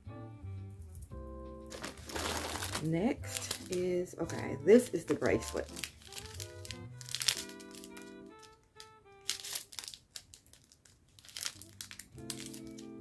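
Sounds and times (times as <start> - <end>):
background music held chords: 0.0 - 9.4, 11.7 - 13.0
plastic bag crinkling: 1.7 - 13.0.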